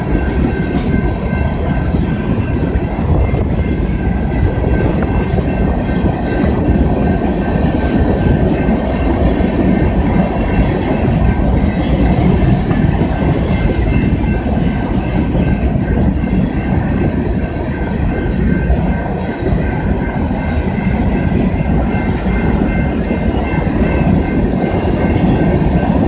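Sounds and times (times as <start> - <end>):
steel wheels rumbling on rails: 0.0 - 26.0.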